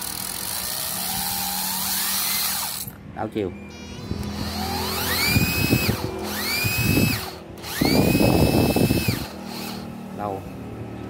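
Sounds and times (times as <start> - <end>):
cordless driver motor whining: 0.0 - 3.0, 3.6 - 10.6.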